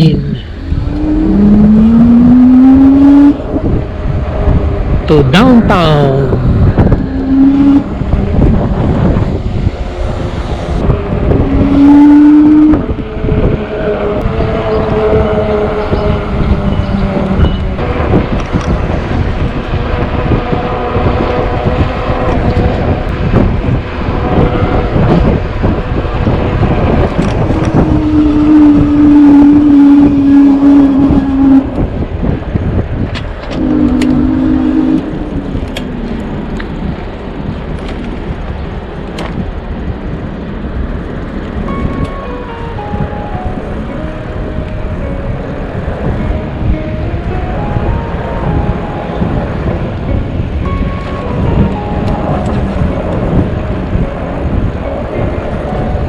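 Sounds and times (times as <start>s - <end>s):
electric bike riding rumble: 0.0s - 56.0s
loud steady hum: 0.0s - 56.0s
wind buffeting microphone: 0.0s - 56.0s.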